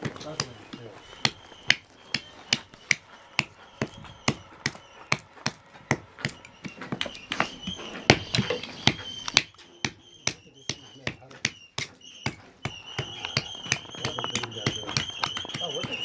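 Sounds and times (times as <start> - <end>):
hand axe chopping wood: 0.0 - 16.0.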